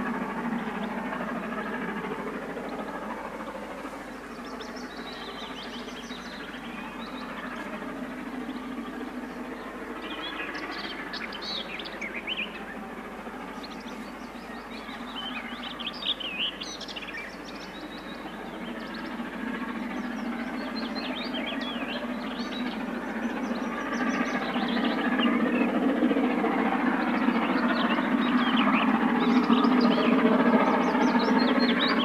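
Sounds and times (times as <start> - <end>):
songbirds chirping: 0.0 - 32.0
steam locomotive rumble: 0.0 - 32.0.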